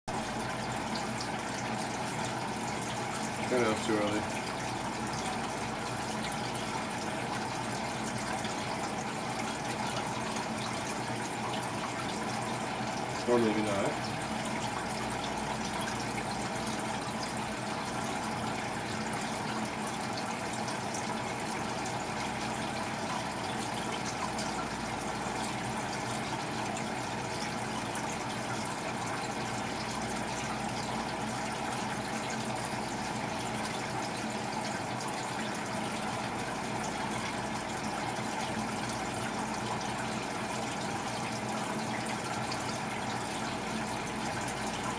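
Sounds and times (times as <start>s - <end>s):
aquarium filter water rushing: 0.1s - 44.9s.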